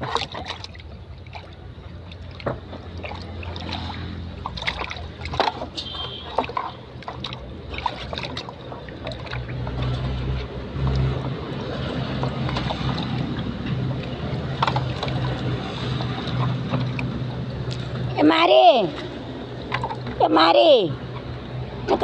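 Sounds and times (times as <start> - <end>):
water running and sloshing: 0.0 - 22.0.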